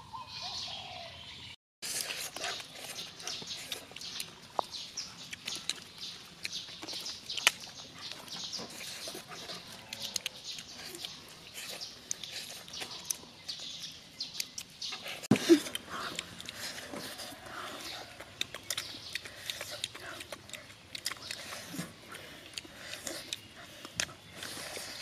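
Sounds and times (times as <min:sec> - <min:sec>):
people chewing: 0:01.8 - 0:25.0
wet lip-smacking: 0:01.8 - 0:25.0.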